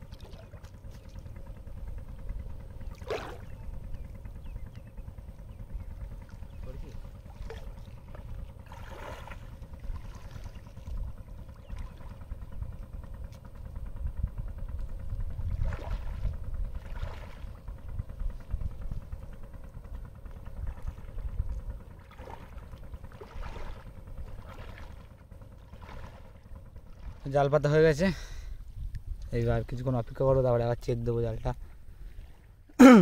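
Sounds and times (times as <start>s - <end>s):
water sloshing and splashing: 0.0s - 4.8s, 6.0s - 13.6s, 15.2s - 19.1s, 19.8s - 28.0s, 29.4s - 32.8s
steady low rumble: 0.0s - 33.0s.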